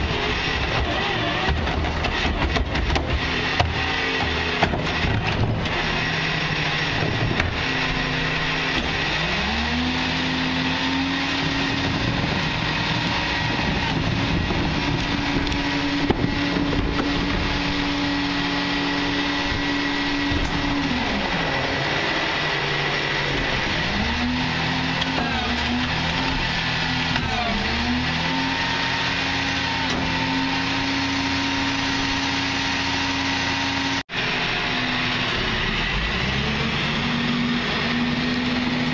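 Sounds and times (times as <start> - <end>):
diesel engine idling and revving: 0.0 - 38.9
hydraulic packer running: 0.0 - 38.9.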